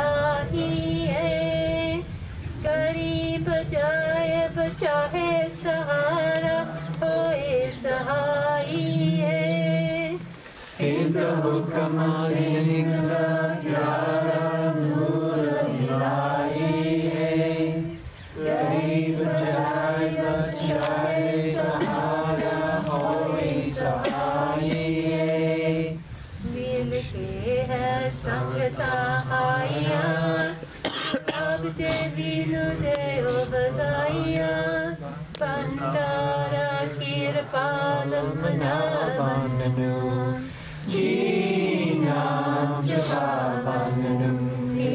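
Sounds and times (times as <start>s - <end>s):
hymn singing: 0.0s - 44.9s.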